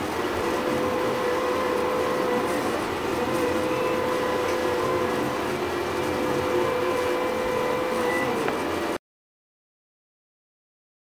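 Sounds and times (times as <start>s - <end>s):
stepper motors whining: 0.0s - 9.0s.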